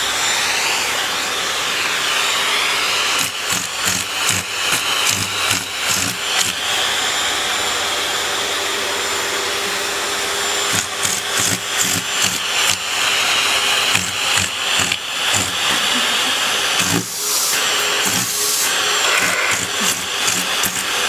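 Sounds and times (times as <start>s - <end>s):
vacuum cleaner motor running: 0.0s - 21.0s.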